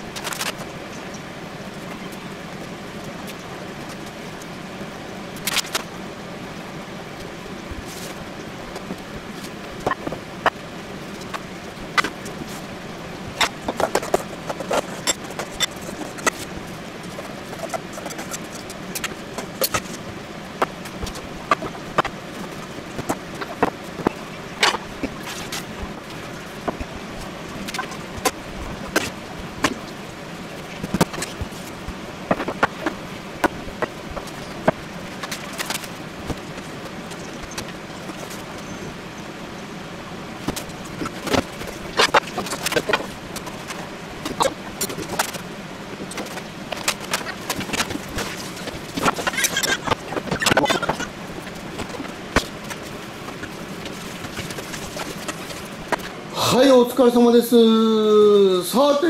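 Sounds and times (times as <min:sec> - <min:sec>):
steady background noise: 0:00.0 - 0:59.0.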